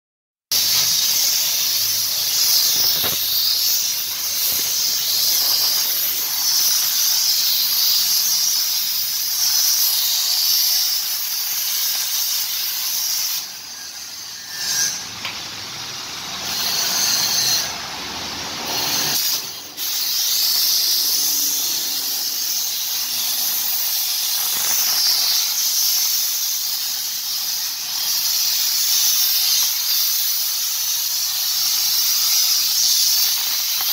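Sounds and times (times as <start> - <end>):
steam cleaner hissing: 0.5 - 33.9.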